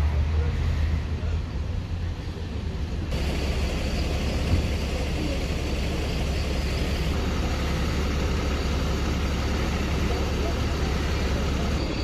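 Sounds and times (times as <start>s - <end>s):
street noise: 0.0s - 12.0s
vehicle engine idling: 1.2s - 12.0s.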